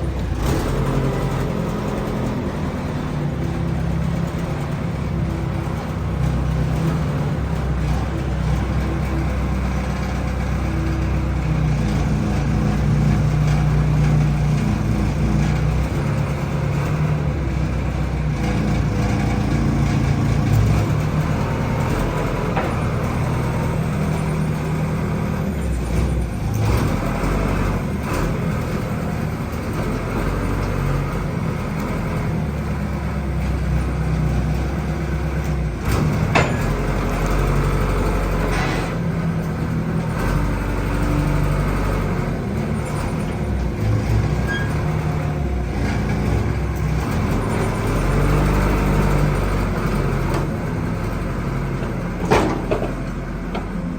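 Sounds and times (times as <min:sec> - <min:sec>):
large engine humming: 0:00.0 - 0:53.9.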